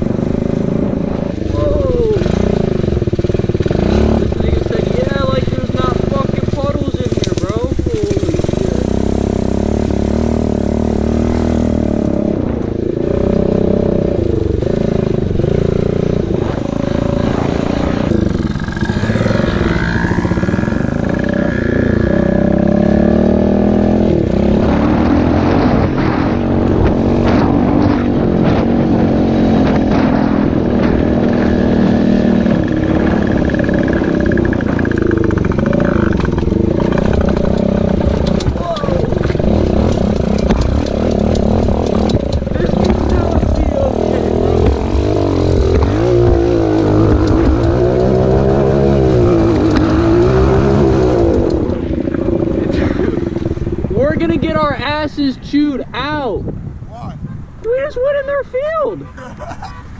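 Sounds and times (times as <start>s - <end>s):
small motorcycle engine revving: 0.0s - 55.0s.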